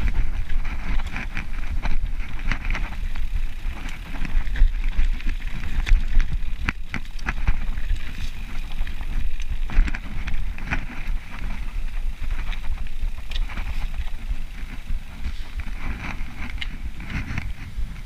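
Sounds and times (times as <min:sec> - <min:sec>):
bike clicking and rattling: 0:00.0 - 0:18.0
tyres rolling on dirt: 0:00.0 - 0:18.0
wind buffeting microphone: 0:00.0 - 0:18.0.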